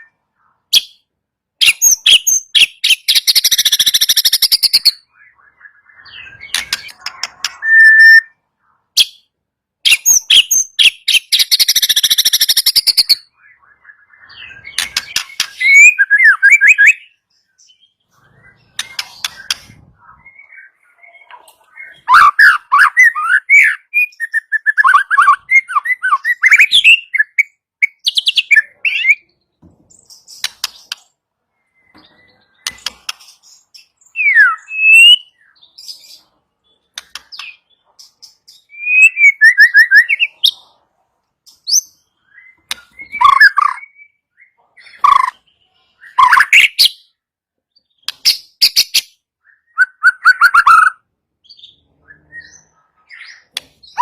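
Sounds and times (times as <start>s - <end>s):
bird singing clear whistles and trills: 0.0s - 54.0s.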